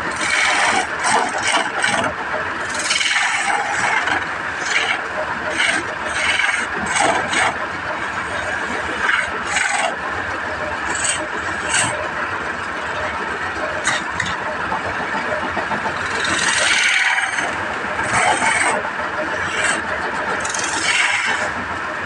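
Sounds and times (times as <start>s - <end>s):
chisel scraping spinning wood: 0.0s - 22.0s
wood lathe running: 0.0s - 22.0s.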